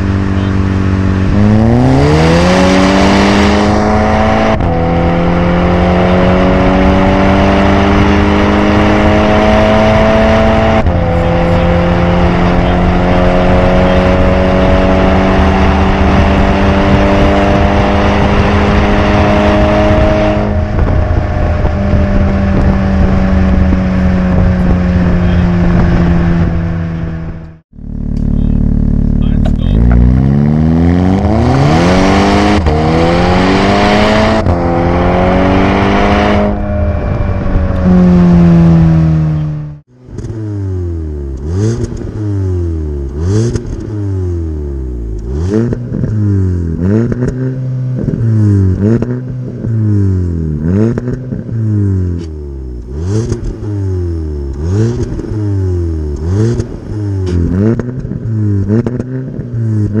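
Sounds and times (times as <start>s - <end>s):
car engine accelerating hard: 0.0s - 60.0s
car engine free-revving: 0.0s - 60.0s.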